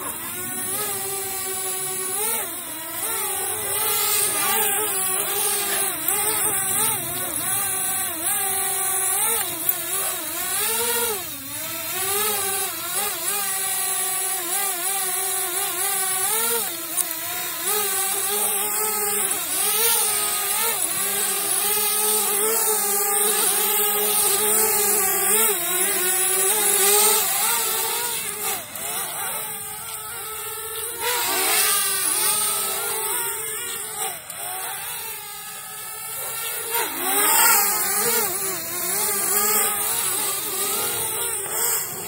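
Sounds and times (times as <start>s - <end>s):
drone propellers whining: 0.0s - 42.0s.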